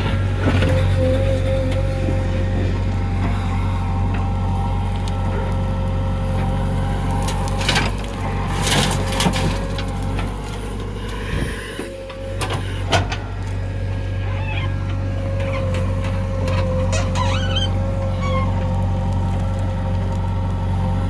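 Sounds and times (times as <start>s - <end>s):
diesel machinery engine running: 0.0s - 21.0s.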